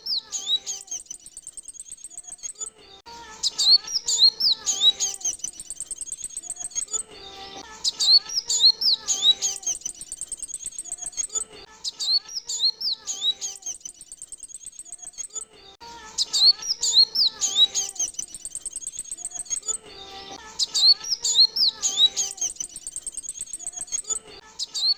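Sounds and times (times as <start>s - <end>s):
sunbird chirps and trills: 0.0s - 2.7s, 3.4s - 15.5s, 16.2s - 24.9s.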